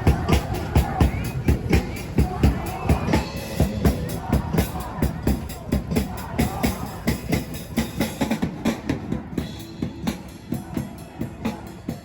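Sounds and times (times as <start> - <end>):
drums playing quick beat: 0.0 - 12.0.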